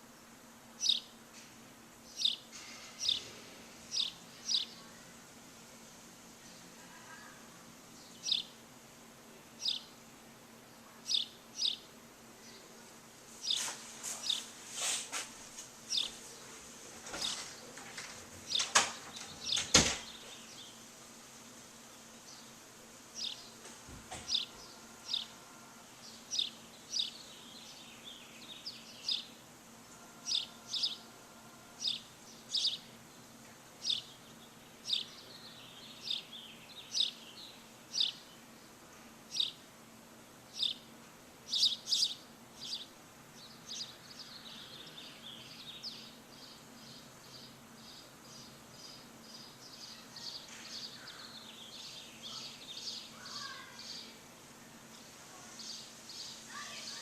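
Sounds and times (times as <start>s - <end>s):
small songbirds chirping: 0.0s - 1.3s, 1.9s - 5.3s, 6.4s - 8.8s, 9.4s - 15.0s, 15.8s - 20.9s, 21.8s - 57.0s
faint steady hum: 0.0s - 57.0s.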